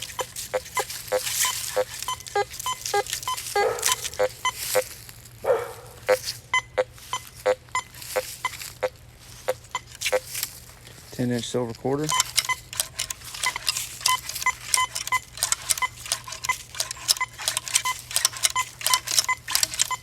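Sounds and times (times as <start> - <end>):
metal detector beeps: 0.0 - 5.0, 6.0 - 10.6, 11.9 - 20.0.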